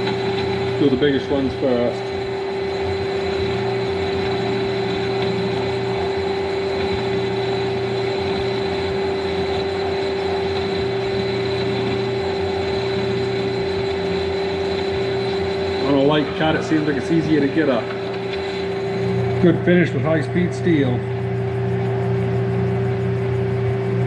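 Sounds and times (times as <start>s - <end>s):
high machine whine: 0.0s - 24.0s
metal lathe humming: 0.0s - 24.0s.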